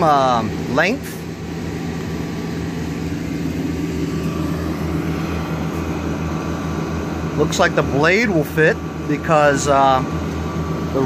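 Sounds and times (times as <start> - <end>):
motor drone with throb: 0.0 - 11.0.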